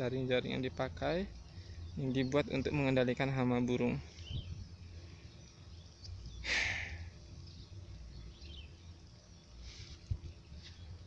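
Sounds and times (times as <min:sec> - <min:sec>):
faint bird chirps: 0:00.1 - 0:11.0.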